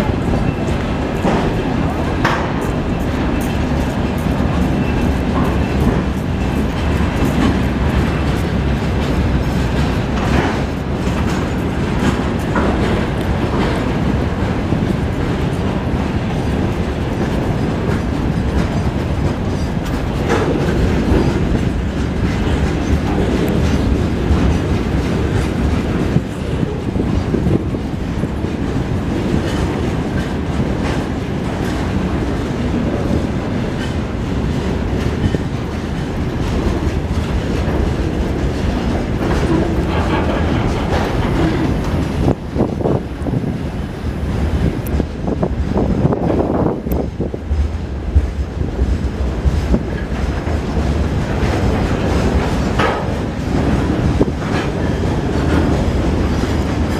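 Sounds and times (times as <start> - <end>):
clickety-clack over rail joints: 0.0 - 56.9
train wheels on rail: 0.0 - 56.9.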